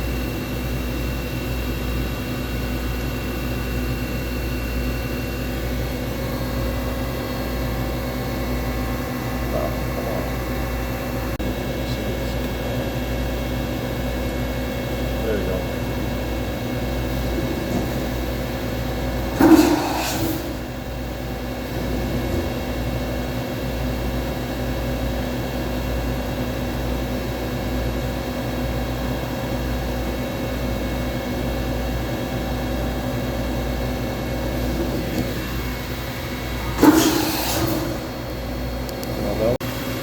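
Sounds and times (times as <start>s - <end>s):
machining center humming: 0.0s - 40.0s.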